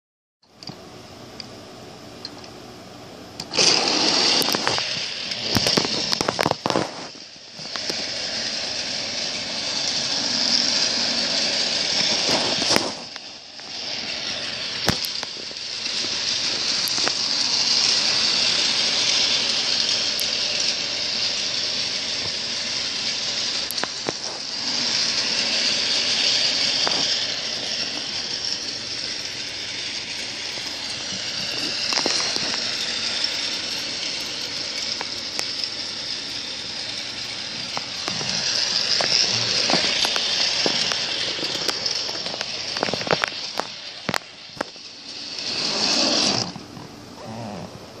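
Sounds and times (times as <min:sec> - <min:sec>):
toy train clicks: 0:03.4 - 0:46.7
toy train motor rattling whir: 0:03.4 - 0:47.8.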